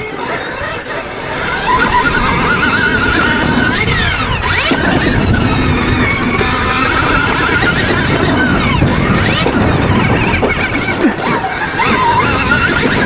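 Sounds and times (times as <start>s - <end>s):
electric motorbike motor whining: 0.0s - 13.0s.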